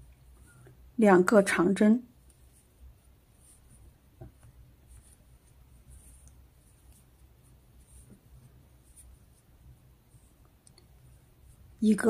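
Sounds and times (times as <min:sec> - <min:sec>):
yarn rustling: 0:02.0 - 0:12.0.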